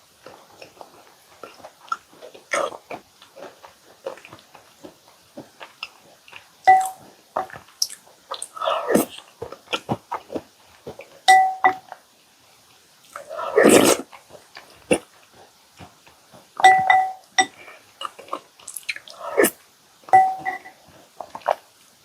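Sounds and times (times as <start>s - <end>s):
wet chewing and mouth smacks: 0.0s - 22.0s.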